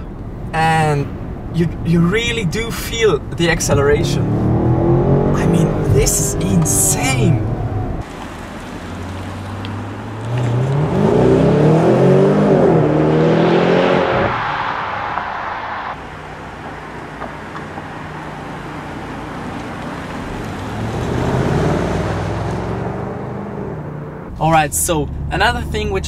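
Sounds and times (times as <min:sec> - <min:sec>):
car engine accelerating hard: 0:03.4 - 0:26.0.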